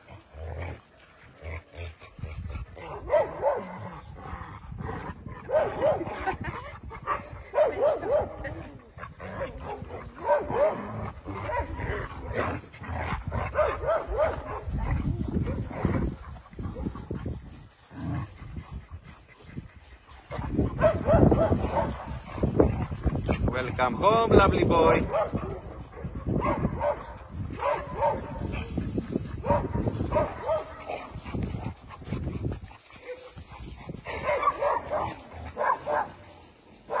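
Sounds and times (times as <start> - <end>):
dogs yipping and barking: 2.4 - 3.8, 5.1 - 17.9, 18.5 - 23.4, 25.0 - 37.0.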